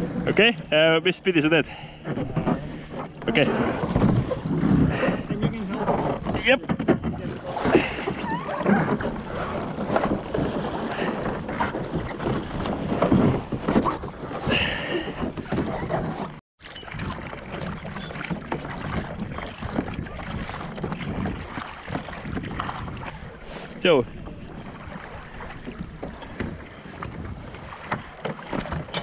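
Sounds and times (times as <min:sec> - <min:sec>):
knocks and bumps of boats: 0:00.0 - 0:29.0
water splashing against kayak hulls: 0:00.0 - 0:29.0.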